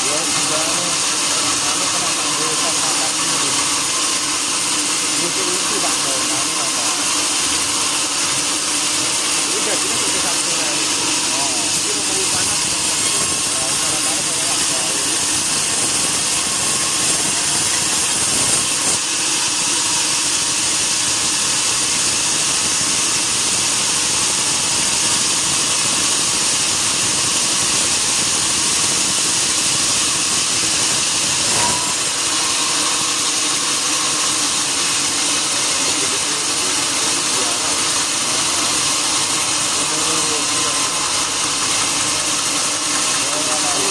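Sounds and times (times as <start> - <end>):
sawmill saw running: 0.0 - 43.9.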